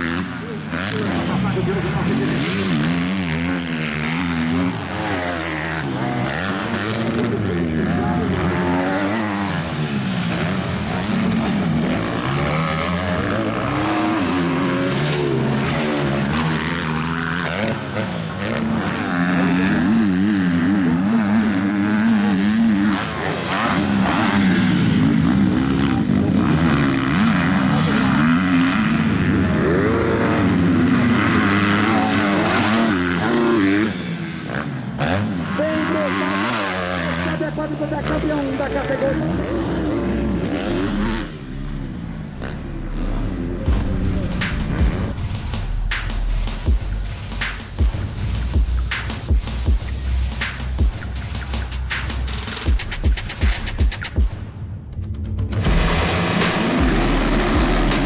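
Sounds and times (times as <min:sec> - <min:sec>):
motocross bike engines revving: 0:00.0 - 0:54.3, 0:55.3 - 0:58.0.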